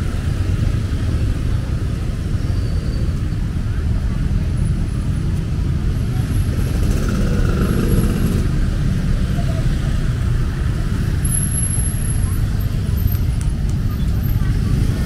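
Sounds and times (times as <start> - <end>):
cars running by: 0.0 - 15.0.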